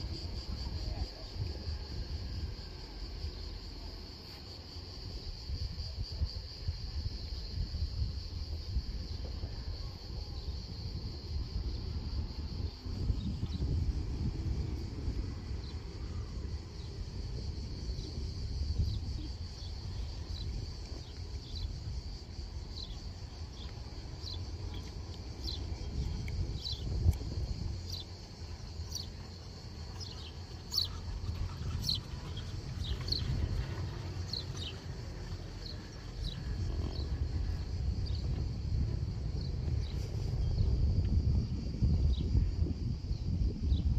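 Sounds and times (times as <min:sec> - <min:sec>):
cicadas buzzing: 0:00.0 - 0:43.9
wind rumble on microphone: 0:00.0 - 0:43.9.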